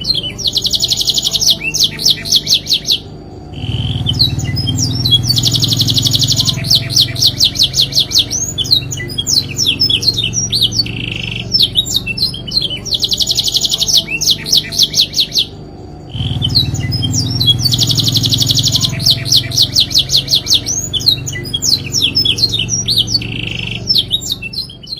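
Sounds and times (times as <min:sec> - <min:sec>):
canary singing trills: 0:00.0 - 0:24.9
steady low hum: 0:00.0 - 0:24.9.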